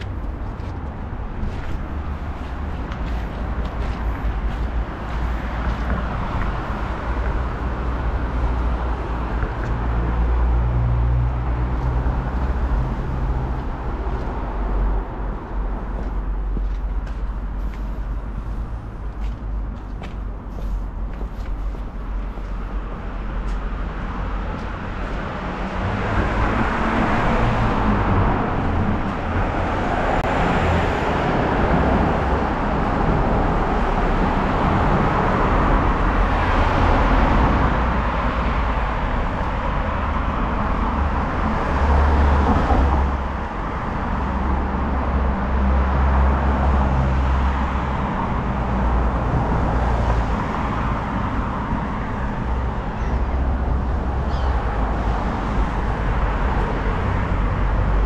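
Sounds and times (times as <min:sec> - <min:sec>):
cars passing close by: 0:00.0 - 0:58.0.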